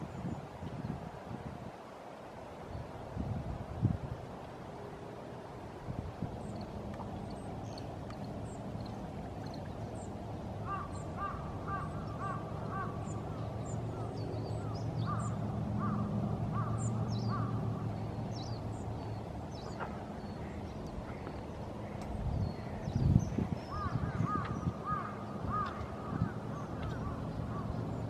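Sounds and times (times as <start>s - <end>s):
low steady rumble: 2.6s - 28.0s.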